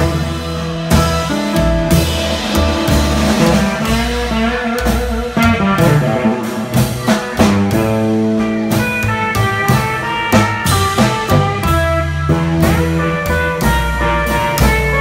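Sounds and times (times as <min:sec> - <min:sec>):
double bass walking line: 0:00.0 - 0:15.0
drums: 0:00.0 - 0:15.0
guitar: 0:00.0 - 0:15.0.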